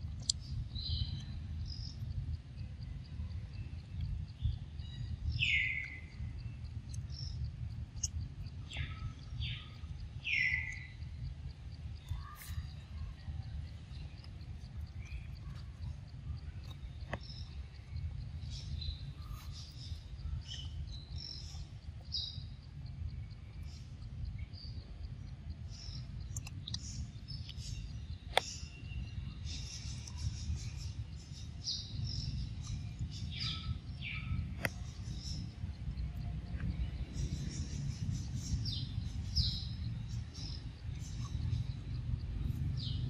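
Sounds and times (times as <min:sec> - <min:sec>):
steady low rumble: 0:00.0 - 0:43.0
bird chirps: 0:00.2 - 0:43.0.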